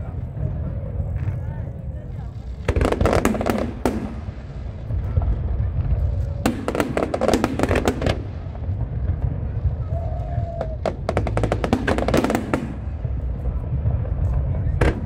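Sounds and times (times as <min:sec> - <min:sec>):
continuous low rumble: 0:00.0 - 0:15.0
fireworks crackling bangs: 0:02.0 - 0:15.0.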